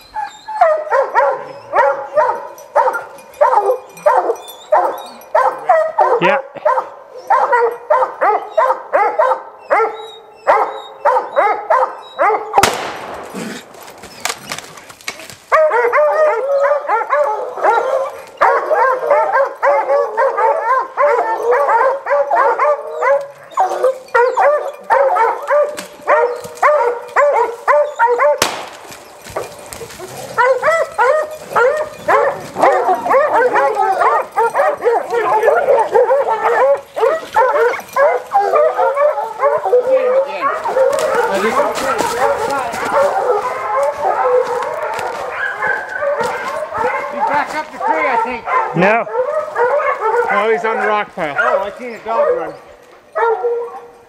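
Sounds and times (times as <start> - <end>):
hounds baying and barking: 0.0 - 54.0.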